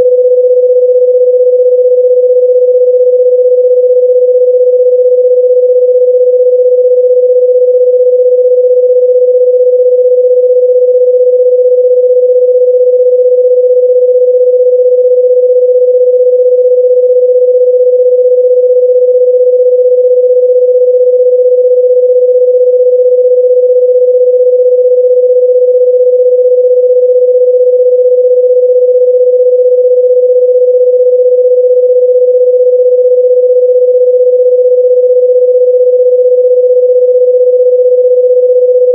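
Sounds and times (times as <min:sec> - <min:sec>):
electronic sine-wave tone: 0:00.0 - 0:38.9.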